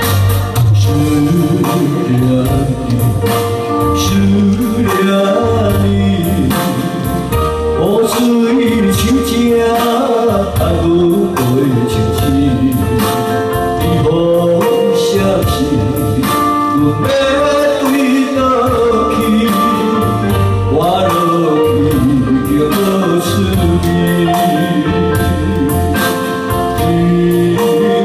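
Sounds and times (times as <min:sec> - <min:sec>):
electronic keyboard with beat: 0:00.0 - 0:28.0
man singing into a microphone: 0:00.0 - 0:28.0.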